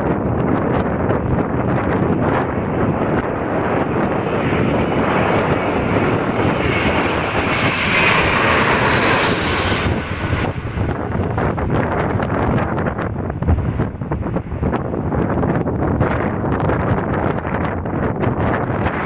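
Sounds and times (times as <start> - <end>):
jet engines passing: 0.0 - 16.8
wind buffeting microphone: 0.0 - 19.0.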